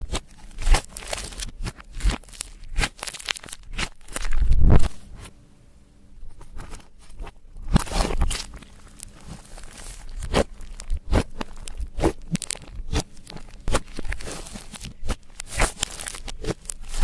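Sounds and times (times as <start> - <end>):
slime squished by hand: 0.0 - 4.9, 7.6 - 17.0
sticky crackles and pops: 0.0 - 5.0, 6.5 - 17.0.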